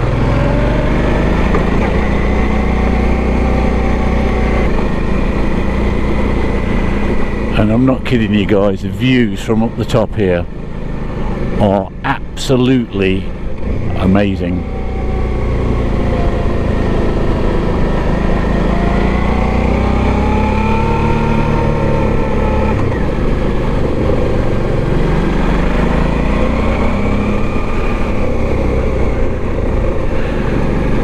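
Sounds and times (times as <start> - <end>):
motorcycle engine revving: 0.0 - 12.1, 13.3 - 31.0.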